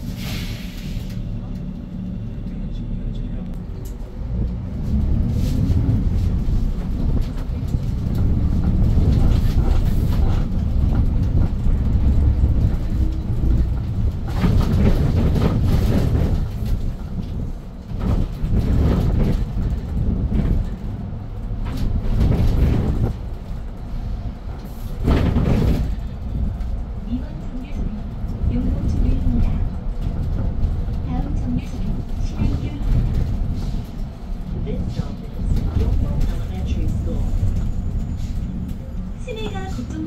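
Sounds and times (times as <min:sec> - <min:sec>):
bus engine and road rumble: 0:00.0 - 0:40.0
bus rattling: 0:00.0 - 0:40.0.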